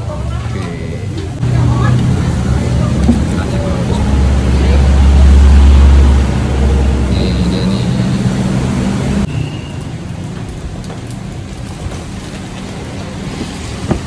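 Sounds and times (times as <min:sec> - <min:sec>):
steady traffic noise: 0:00.0 - 0:14.0
vehicle engine rumbling: 0:00.0 - 0:14.0.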